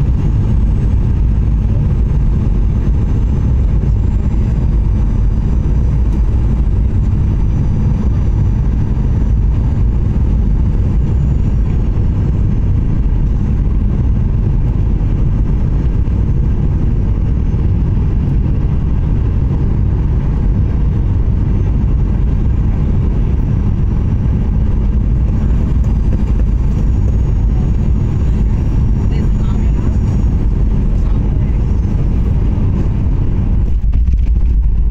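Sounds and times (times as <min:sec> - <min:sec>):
jet engines roaring: 0:00.0 - 0:34.9
rushing air: 0:00.0 - 0:34.9.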